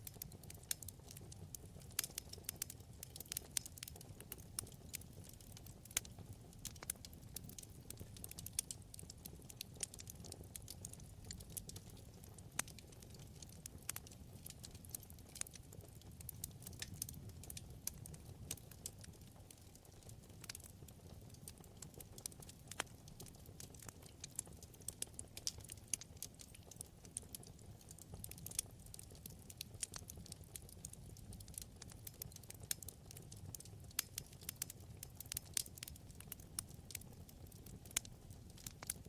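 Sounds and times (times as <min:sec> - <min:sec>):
low rumble of flame: 0:00.0 - 0:39.0
wood fire crackling: 0:00.0 - 0:39.0.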